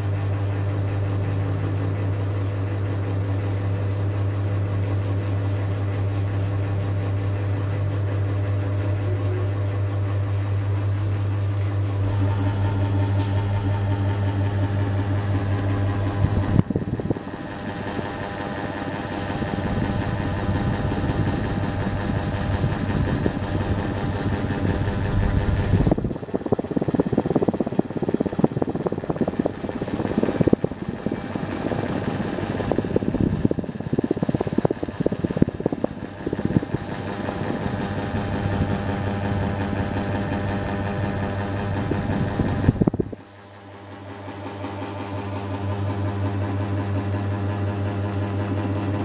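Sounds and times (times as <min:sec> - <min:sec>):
ceiling fan motor hum: 0:00.0 - 0:49.0.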